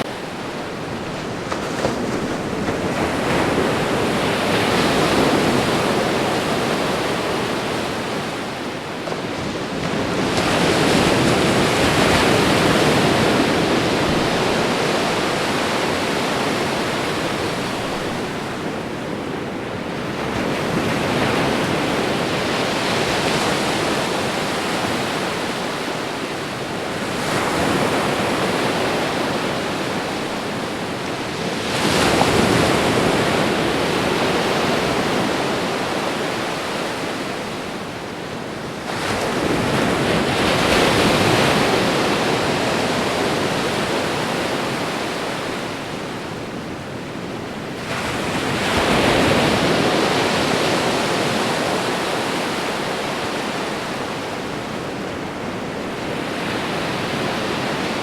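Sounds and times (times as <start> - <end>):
ocean waves crashing: 0.0 - 58.0.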